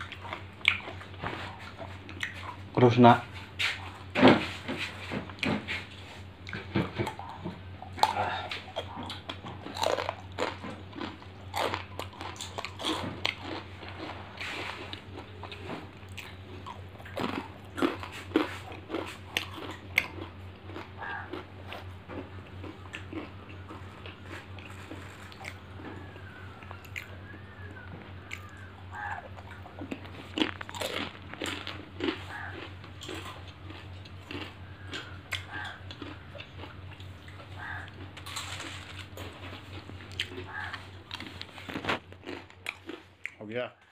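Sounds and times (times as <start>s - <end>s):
person chewing crunchy food: 0.0s - 43.5s.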